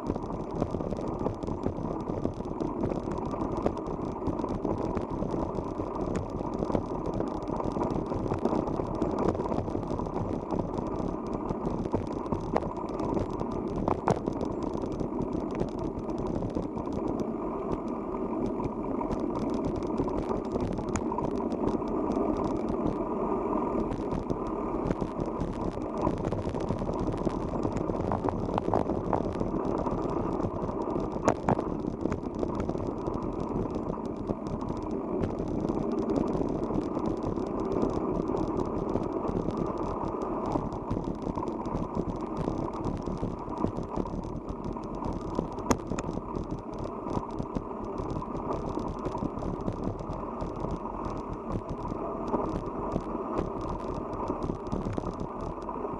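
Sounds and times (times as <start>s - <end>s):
bicycle rattling and clicking: 0.0s - 23.0s, 23.7s - 55.7s
bicycle tyres and air rumbling: 0.0s - 55.9s.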